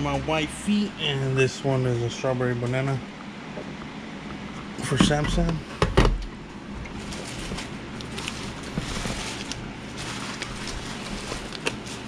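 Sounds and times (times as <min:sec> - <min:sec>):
mini fridge fan whirring: 0:00.0 - 0:12.0.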